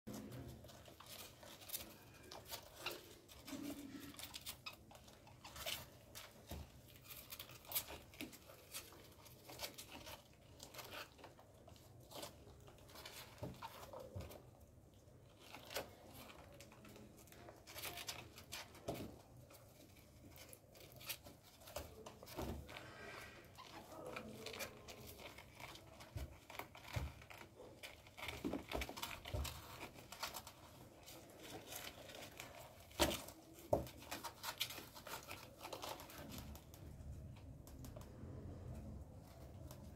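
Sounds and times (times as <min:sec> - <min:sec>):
rabbits rustling and scratching: 0:00.1 - 0:39.9.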